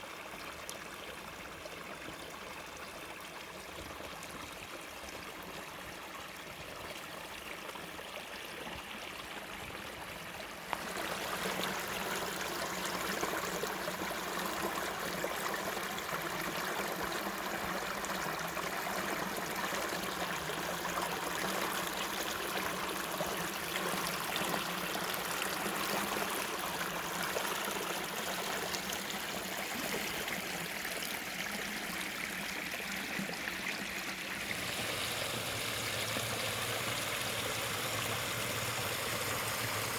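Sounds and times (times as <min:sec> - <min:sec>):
stream babbling: 0:00.1 - 0:39.9.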